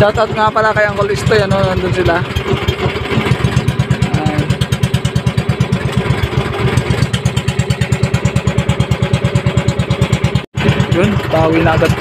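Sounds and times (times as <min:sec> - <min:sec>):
boat engine puttering: 0:00.0 - 0:12.0.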